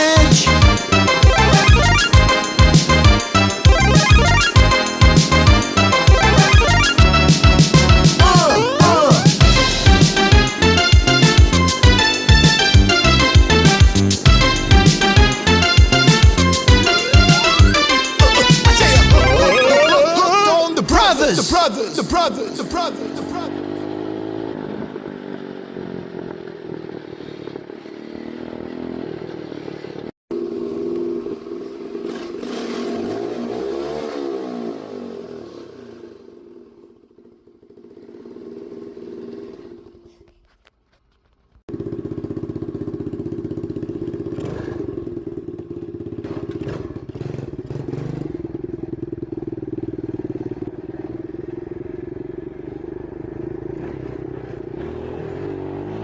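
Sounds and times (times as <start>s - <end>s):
dirt bike engines running: 0.0s - 56.0s.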